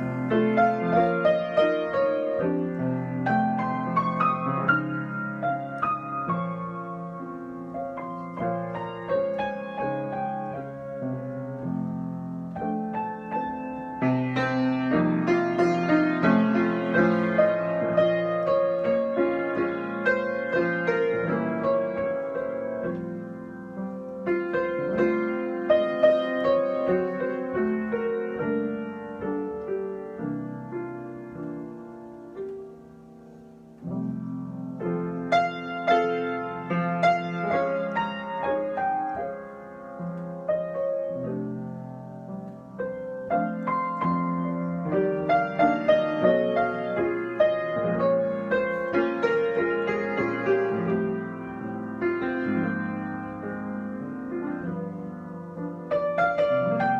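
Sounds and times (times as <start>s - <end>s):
solo piano improvisation: 0.0s - 56.9s.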